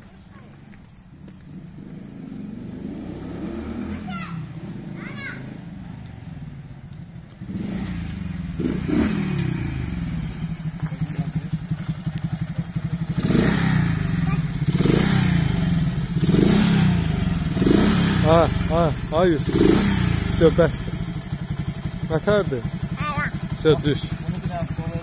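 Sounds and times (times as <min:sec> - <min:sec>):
small motorcycle engine revving: 0:01.8 - 0:05.9, 0:07.3 - 0:25.0.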